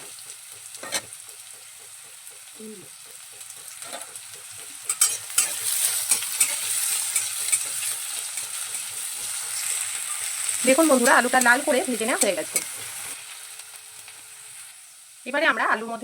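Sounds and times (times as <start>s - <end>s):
potatoes sizzling in oil: 0.0s - 16.0s
spatula scraping a pan: 0.1s - 1.4s, 3.1s - 14.8s.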